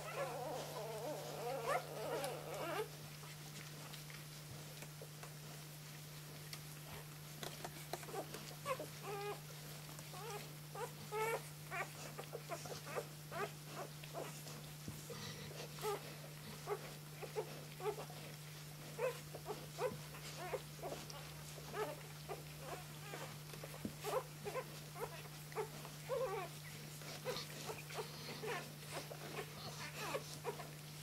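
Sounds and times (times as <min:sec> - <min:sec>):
puppies squeaking and squealing: 0:00.0 - 0:03.0, 0:08.0 - 0:30.8.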